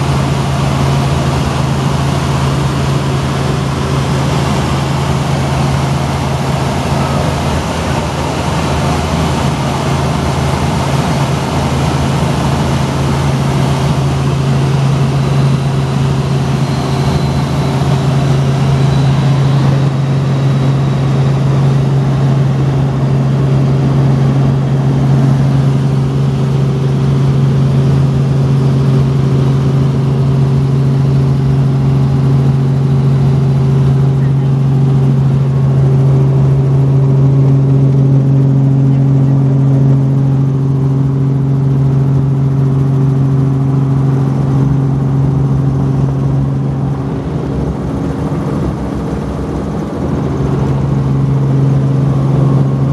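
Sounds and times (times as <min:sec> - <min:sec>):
helicopter engine and rotor drone: 0:00.0 - 0:52.9.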